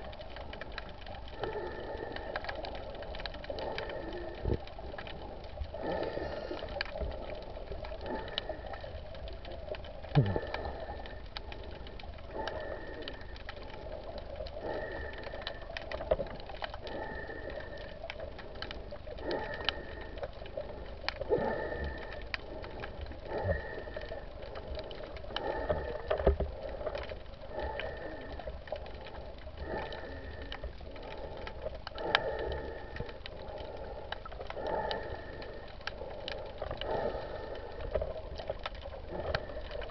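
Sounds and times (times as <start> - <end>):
underwater clicks: 0.0 - 39.9
water swishing: 0.0 - 39.9.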